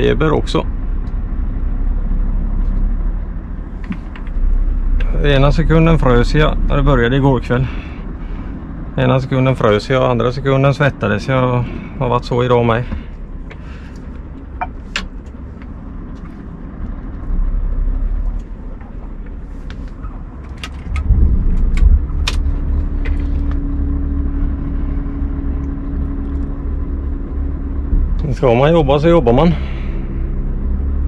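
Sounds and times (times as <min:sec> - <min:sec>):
diesel truck engine rumbling: 0:00.0 - 0:31.0
steady hum: 0:00.0 - 0:31.0.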